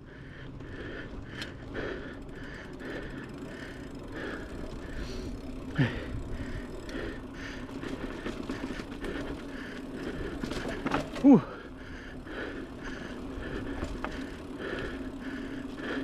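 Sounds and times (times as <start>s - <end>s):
bike tyre and frame rumble: 0.0s - 16.0s
bike hub ratchet clicking: 0.5s - 16.0s.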